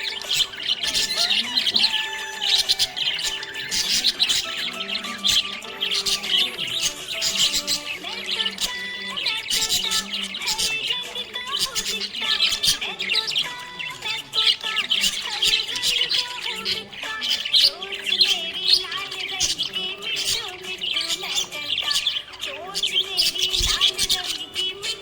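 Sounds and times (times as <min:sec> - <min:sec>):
background music: 0:00.0 - 0:22.1
budgerigars chirping and squawking: 0:00.0 - 0:25.0.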